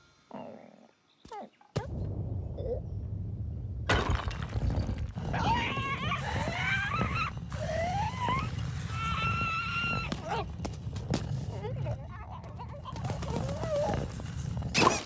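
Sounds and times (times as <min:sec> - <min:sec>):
steady low rumble: 0:01.8 - 0:14.7.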